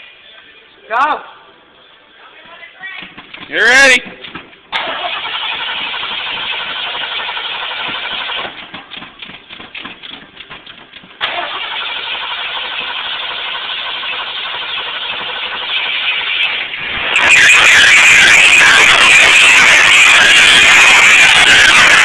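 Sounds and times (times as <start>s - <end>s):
engine cranking and starting: 3.0s - 21.7s.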